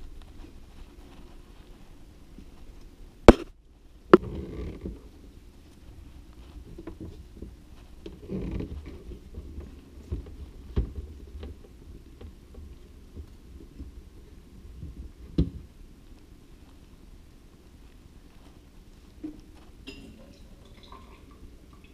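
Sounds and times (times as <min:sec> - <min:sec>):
low rumbling handling noise: 0:00.0 - 0:20.0.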